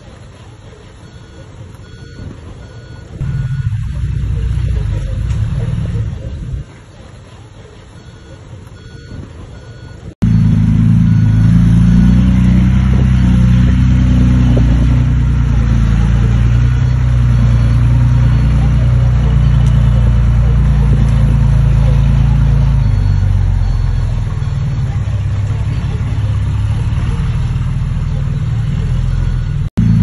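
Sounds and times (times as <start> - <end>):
heavy diesel engine running: 0.0 - 30.0
quiet engine rumble: 0.0 - 30.0.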